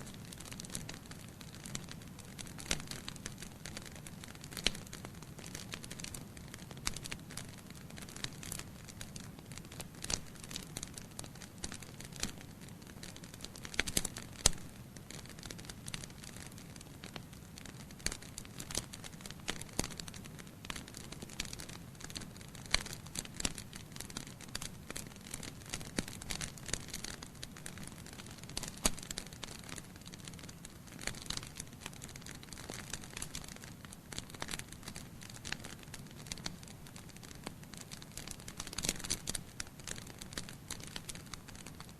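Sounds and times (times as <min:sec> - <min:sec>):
fire pops and snaps: 0:00.0 - 0:41.9
wood fire crackling: 0:00.0 - 0:41.9.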